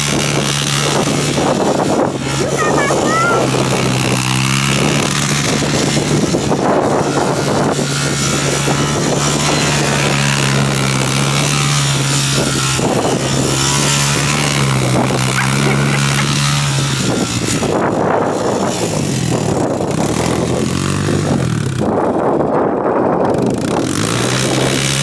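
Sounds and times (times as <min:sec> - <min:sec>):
atv engine running: 0:03.4 - 0:25.0.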